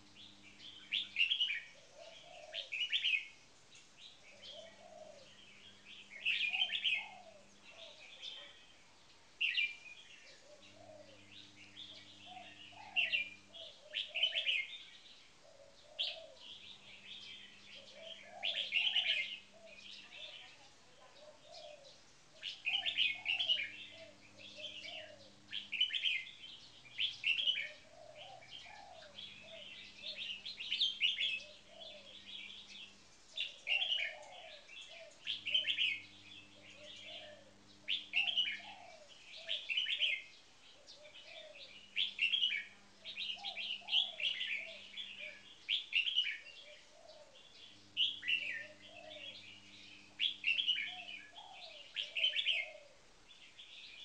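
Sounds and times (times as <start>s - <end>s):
bulbuls singing whistled phrases: 0.0s - 54.0s.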